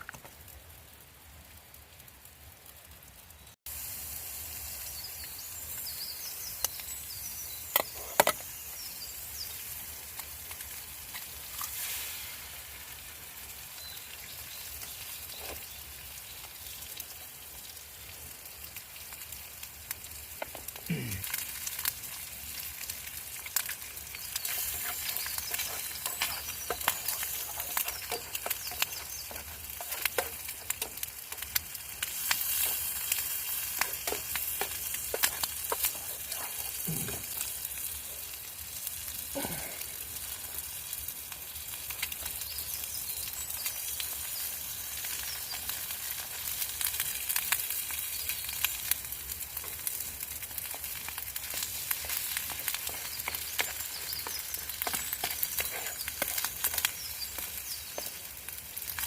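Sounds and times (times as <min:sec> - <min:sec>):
campfire sizzling and popping: 0:00.0 - 0:59.0.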